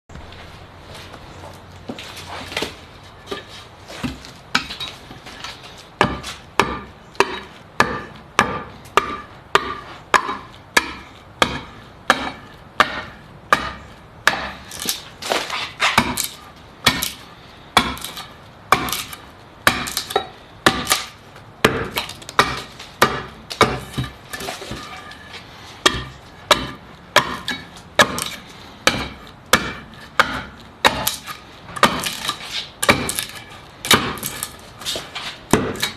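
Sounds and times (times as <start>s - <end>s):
hand tool striking wood: 3.3s - 17.2s, 17.8s - 35.9s.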